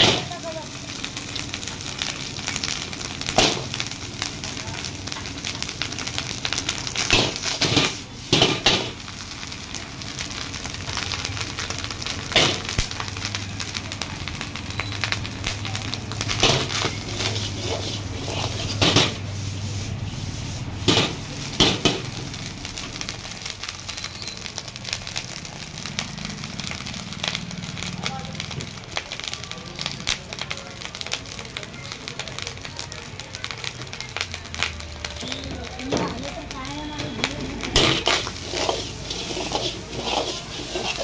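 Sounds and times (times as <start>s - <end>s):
gas burner hissing: 0.0s - 41.0s
rice sizzling: 0.0s - 41.0s.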